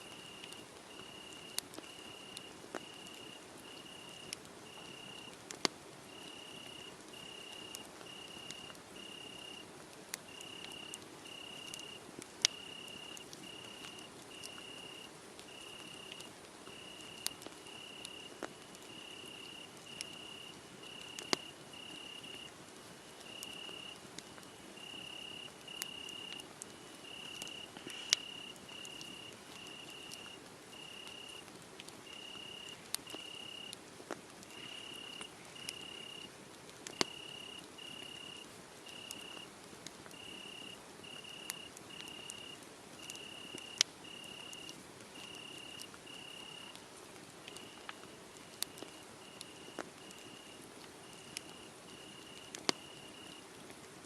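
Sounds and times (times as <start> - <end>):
crickets chirping: 0.0 - 5.3, 6.1 - 9.6, 10.3 - 22.5, 23.2 - 31.4, 32.0 - 33.8, 34.5 - 36.3, 36.9 - 39.5, 40.1 - 46.8, 47.5 - 48.0, 48.6 - 53.4
wood fire crackling: 0.1 - 54.0.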